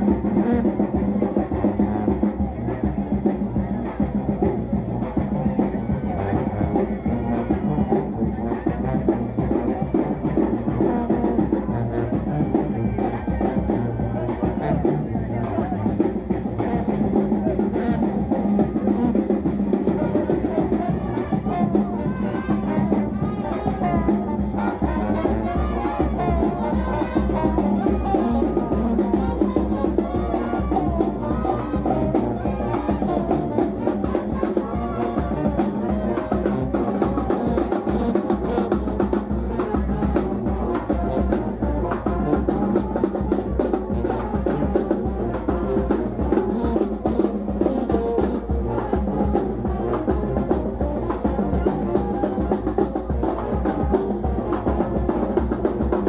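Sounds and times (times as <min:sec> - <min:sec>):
brass band playing: 0:00.0 - 0:56.0
parade drum beat: 0:00.0 - 0:56.0.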